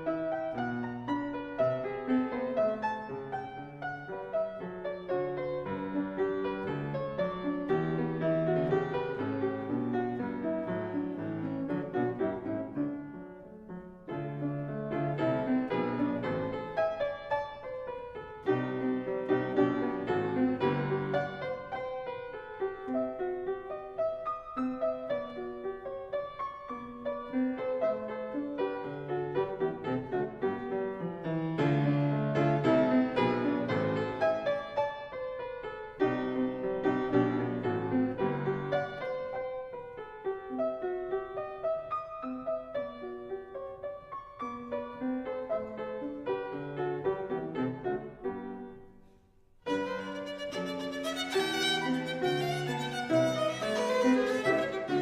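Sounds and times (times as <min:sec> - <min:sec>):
piano music: 0:00.0 - 0:49.0, 0:49.6 - 0:55.0.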